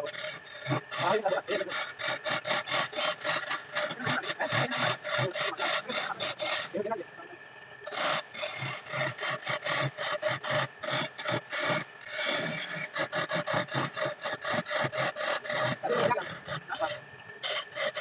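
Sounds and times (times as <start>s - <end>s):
chisel cutting wood on lathe: 0.0s - 7.0s, 7.8s - 18.0s
wood lathe running: 0.0s - 7.0s, 7.8s - 18.0s.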